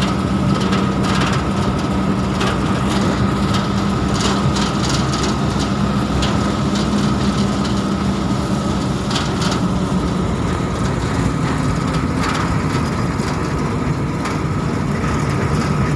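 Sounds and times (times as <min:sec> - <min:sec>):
road noise: 0:00.0 - 0:15.9
vehicle engine drone: 0:00.0 - 0:15.9.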